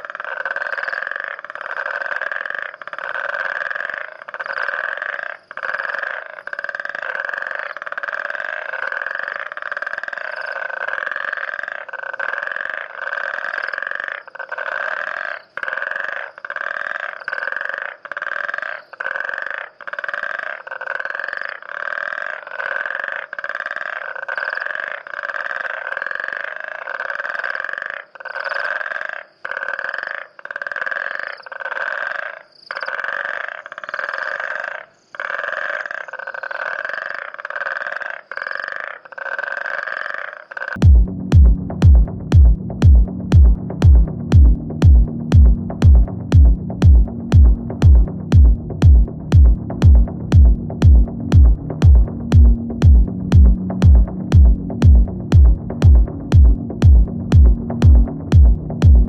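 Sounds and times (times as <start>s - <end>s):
coqui frogs calling: 0.0s - 59.0s.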